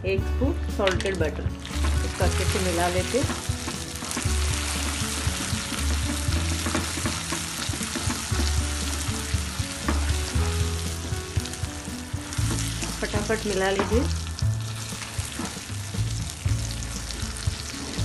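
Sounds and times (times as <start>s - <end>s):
caramel sizzling and bubbling: 0.8s - 18.0s.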